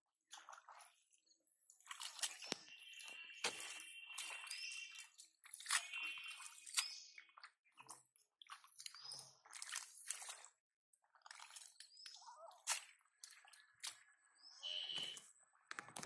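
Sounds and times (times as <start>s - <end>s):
splashing in muddy water: 0.1s - 15.2s.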